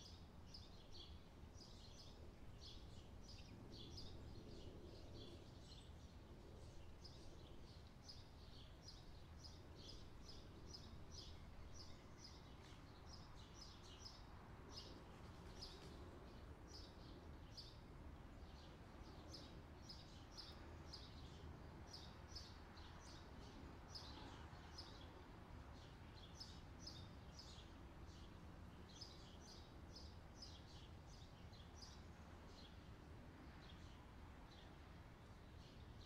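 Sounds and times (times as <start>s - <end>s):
low background hiss: 0.0s - 36.0s
small birds chirping: 0.0s - 36.0s.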